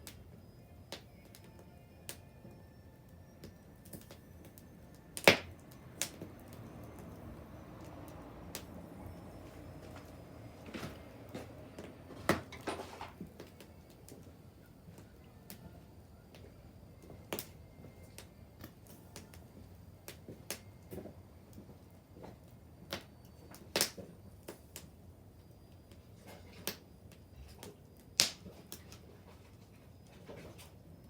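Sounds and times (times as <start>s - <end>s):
bonfire crackling: 0.0s - 31.0s.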